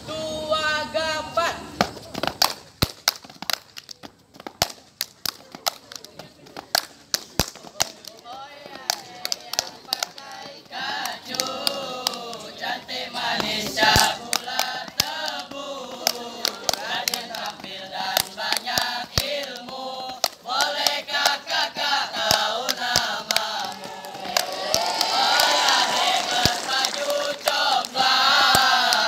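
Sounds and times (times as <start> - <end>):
boys chanting and singing: 0.0 - 2.2, 4.7 - 29.0.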